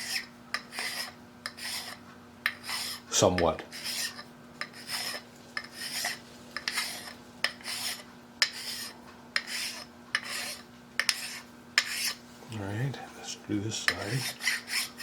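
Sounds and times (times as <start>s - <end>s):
file rasping on metal: 0.0s - 3.1s, 3.7s - 12.2s, 13.9s - 15.0s.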